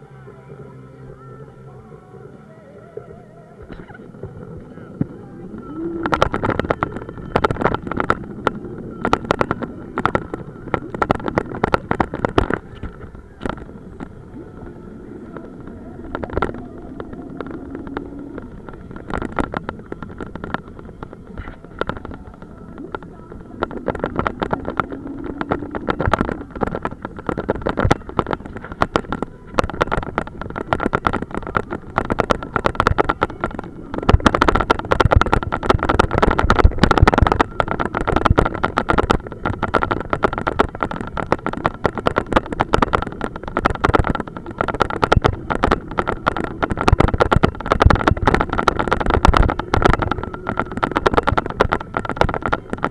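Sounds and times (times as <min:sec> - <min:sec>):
wind buffeting microphone: 0:02.8 - 0:52.9.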